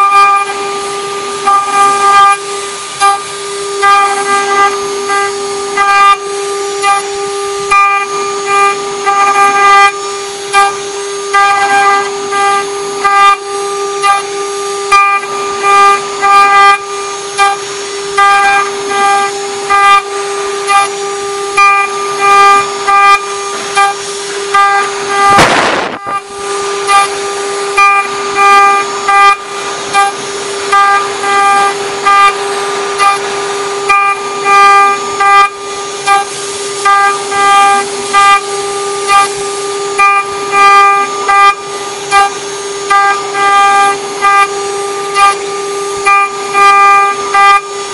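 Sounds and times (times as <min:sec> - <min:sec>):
cutter squealing on metal: 0:00.0 - 0:47.9
loud burst of noise: 0:00.0 - 0:47.9
spindle whine: 0:00.0 - 0:47.9.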